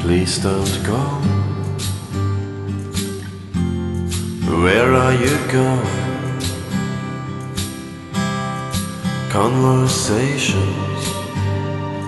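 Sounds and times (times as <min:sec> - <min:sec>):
background song with guitar: 0:00.0 - 0:12.0.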